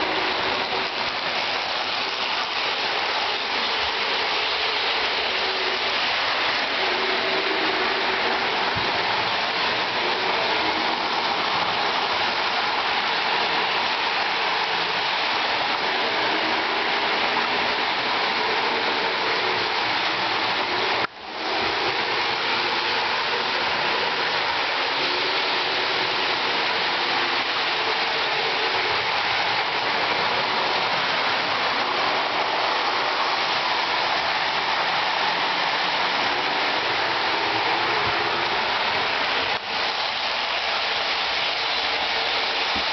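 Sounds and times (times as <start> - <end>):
toy train wheels and motor roaring: 0.0 - 42.9.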